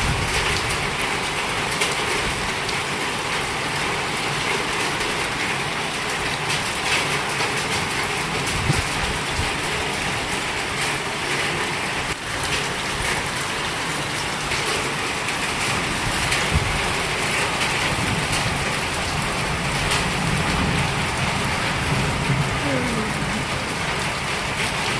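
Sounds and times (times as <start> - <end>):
heavy rain falling: 0.0 - 24.9
raindrops tapping surfaces: 0.0 - 24.9.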